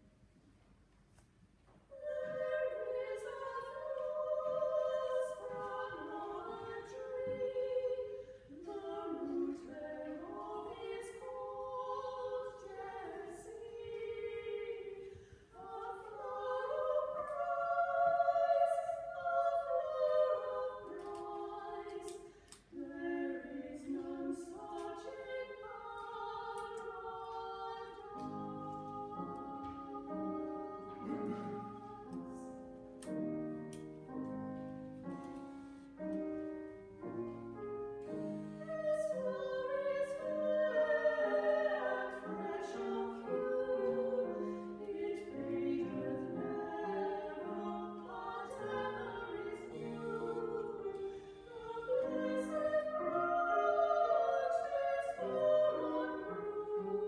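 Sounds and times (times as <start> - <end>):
piano: 0.0 - 57.0
women singing duet: 1.9 - 32.6, 38.6 - 57.0.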